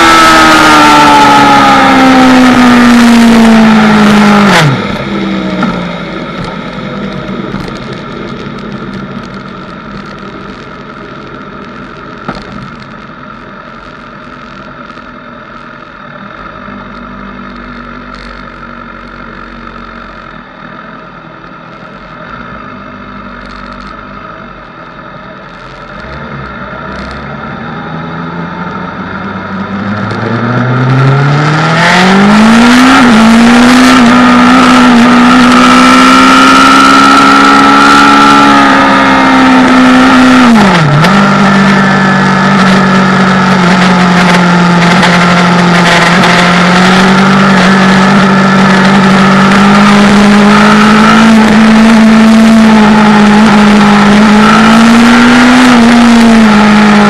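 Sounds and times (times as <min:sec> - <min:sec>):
road and wind noise: 0:00.0 - 0:57.0
vehicle engine revving: 0:00.0 - 0:57.0.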